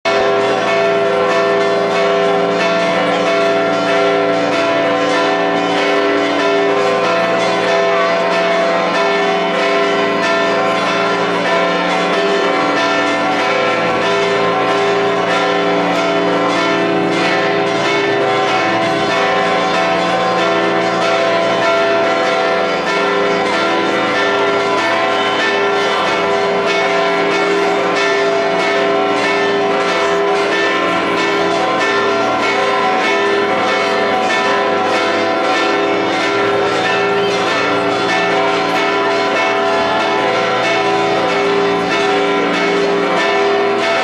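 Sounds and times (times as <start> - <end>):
church bells ringing: 0.0 - 44.0.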